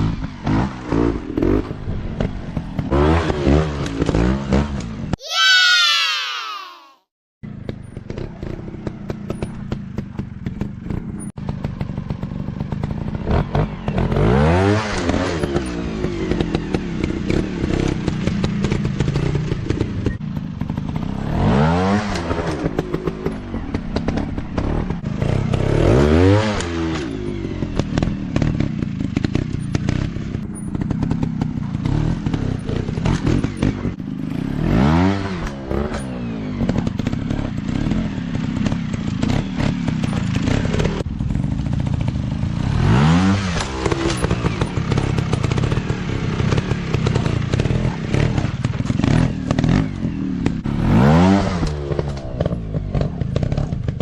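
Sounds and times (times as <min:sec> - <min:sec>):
dirt bike engine revving: 0:00.0 - 0:04.8, 0:11.6 - 0:54.0.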